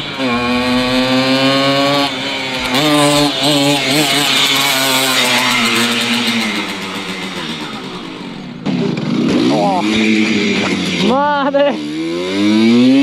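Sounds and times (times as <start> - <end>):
moped engine revving high: 0.0 - 13.0.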